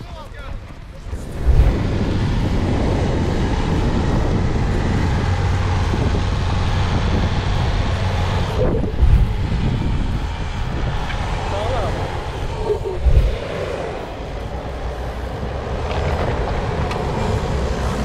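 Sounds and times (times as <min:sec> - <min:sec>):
truck engine running hard: 0:01.0 - 0:18.0.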